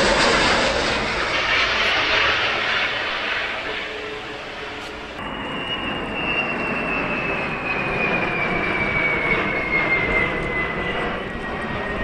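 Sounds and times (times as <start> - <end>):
jet engines passing overhead: 0.0 - 12.0.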